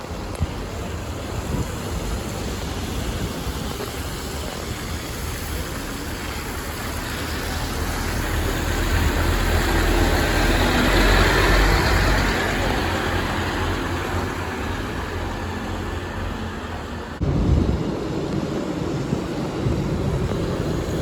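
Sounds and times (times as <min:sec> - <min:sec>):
bus engine rumble: 0:00.0 - 0:21.0
road traffic noise: 0:00.0 - 0:21.0.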